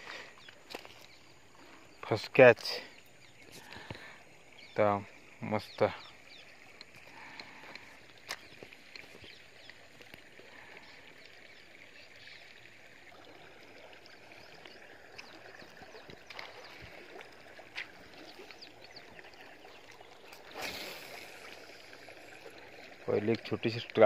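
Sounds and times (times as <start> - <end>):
faint waterside ambience: 0.0 - 24.0.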